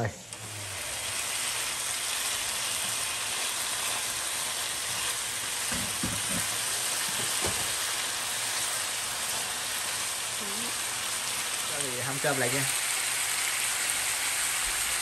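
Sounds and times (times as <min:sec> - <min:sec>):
steak sizzling in frying pan: 0:00.0 - 0:15.0.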